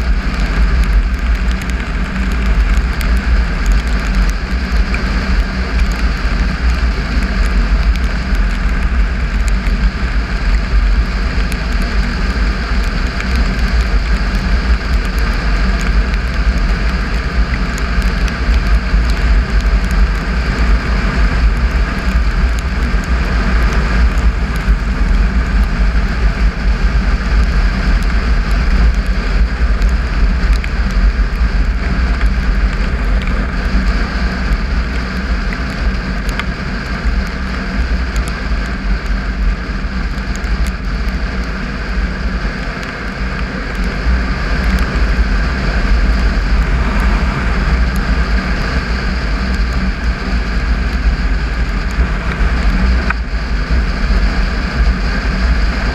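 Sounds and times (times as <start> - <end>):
gravel ticking under tyres: 0.0 - 55.9
motorcycle engine running: 0.0 - 55.9
wind rumble on microphone: 0.0 - 55.9.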